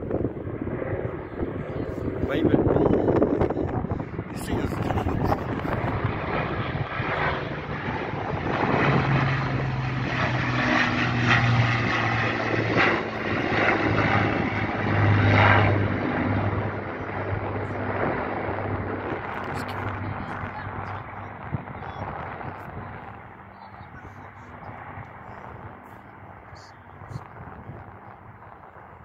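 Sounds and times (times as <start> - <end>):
propeller aircraft engines droning: 0.0 - 29.0.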